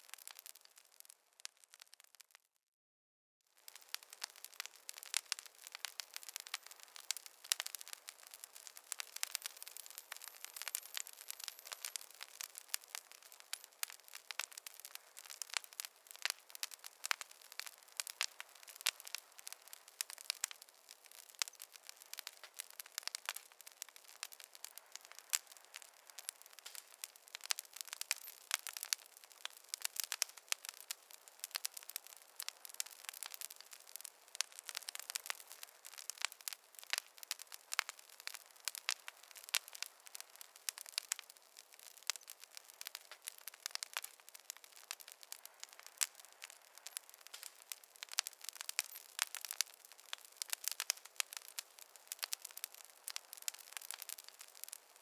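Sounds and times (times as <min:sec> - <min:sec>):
campfire crackling: 0:00.0 - 0:02.4, 0:03.5 - 0:55.0.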